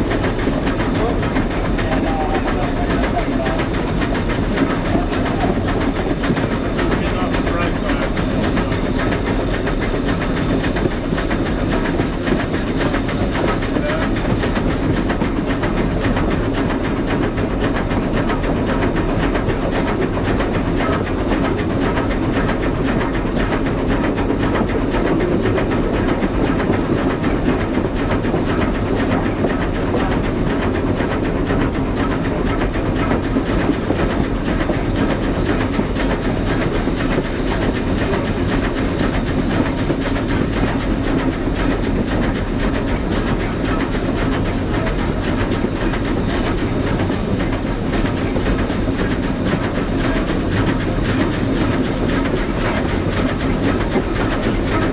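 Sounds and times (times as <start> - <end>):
steam train running: 0.0 - 54.9
train cars rolling on rails: 0.0 - 54.9.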